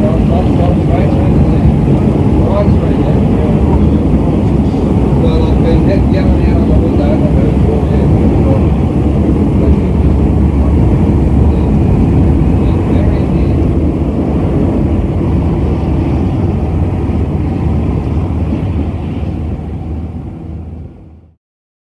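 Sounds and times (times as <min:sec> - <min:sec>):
low vehicle engine rumble: 0:00.0 - 0:21.4.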